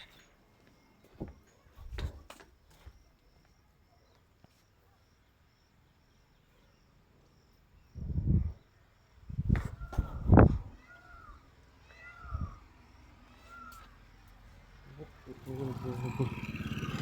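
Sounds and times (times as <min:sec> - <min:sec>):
insect chirping: 0:00.0 - 0:16.9.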